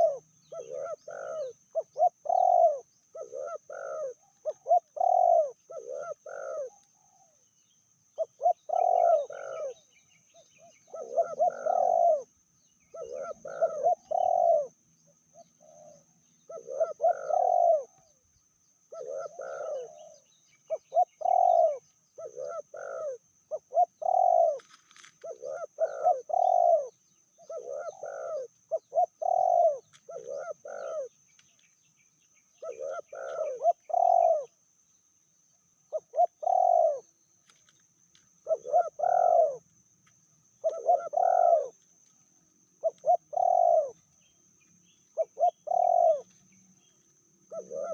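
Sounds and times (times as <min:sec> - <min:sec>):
dove cooing: 0:00.0 - 0:07.4, 0:08.1 - 0:31.2, 0:32.5 - 0:34.6, 0:35.9 - 0:37.1, 0:38.4 - 0:39.7, 0:40.6 - 0:42.1, 0:42.8 - 0:47.9.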